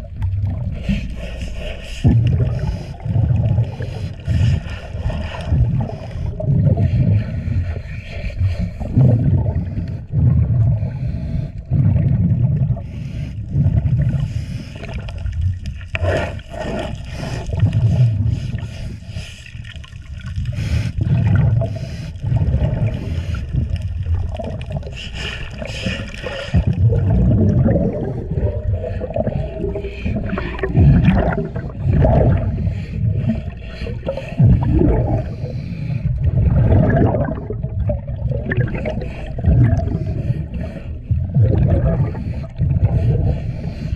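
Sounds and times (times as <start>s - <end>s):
gurgling breathing bubbles: 0.0s - 43.9s
scrub brush scrubbing hull underwater: 0.0s - 43.9s.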